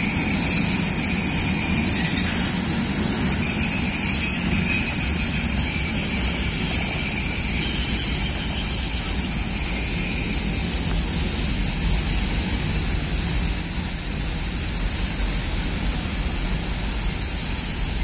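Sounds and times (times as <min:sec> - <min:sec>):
high-pitched wheel squeal: 0:00.0 - 0:18.0
train wheels rumbling on rail: 0:00.0 - 0:18.0.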